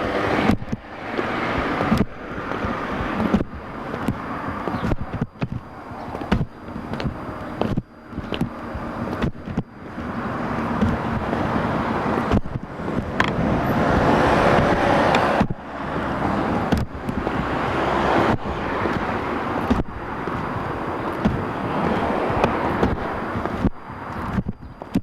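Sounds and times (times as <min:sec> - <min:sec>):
road traffic: 0:00.0 - 0:25.0
wind rumbling on microphone: 0:00.0 - 0:25.0.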